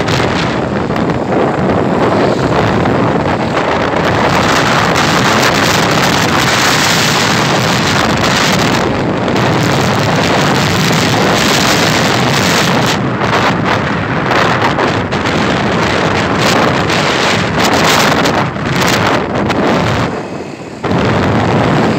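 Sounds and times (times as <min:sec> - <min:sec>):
road noise: 0:00.0 - 0:21.9
vehicle engine: 0:00.0 - 0:21.9
wind noise on microphone: 0:00.0 - 0:21.9.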